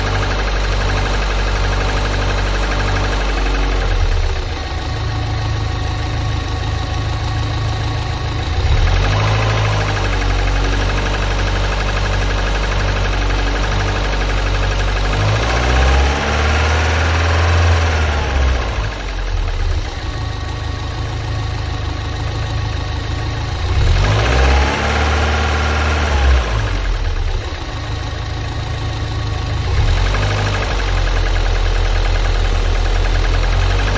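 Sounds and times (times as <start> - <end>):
car engine idling and revving: 0.0 - 33.9
engine knocking and howling: 0.0 - 33.9.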